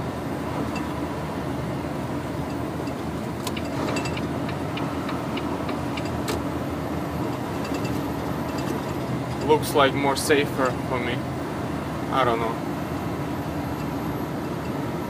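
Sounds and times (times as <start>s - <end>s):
road noise: 0.0s - 15.0s
truck diesel engine droning: 0.0s - 15.0s.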